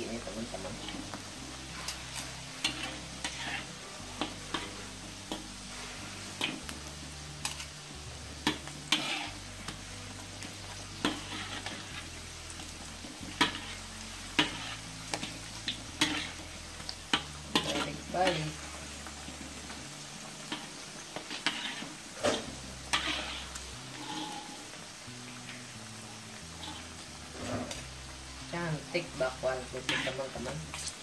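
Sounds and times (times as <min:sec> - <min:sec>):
metal skimmer scraping wok: 0:00.0 - 0:09.5, 0:10.4 - 0:19.7, 0:20.3 - 0:24.8, 0:26.6 - 0:27.8, 0:29.0 - 0:31.0
oil sizzling in deep-frying: 0:00.0 - 0:31.0.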